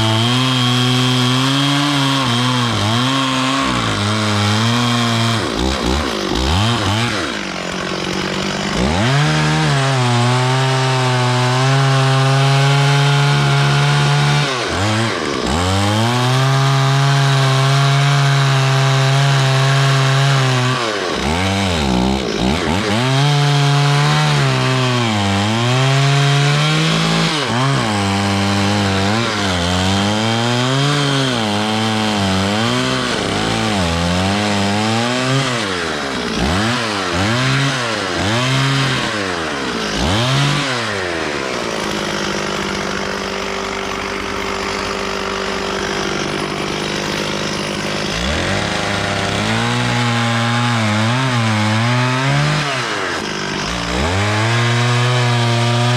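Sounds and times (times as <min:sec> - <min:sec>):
chainsaw sawing wood: 0:00.0 - 0:55.9.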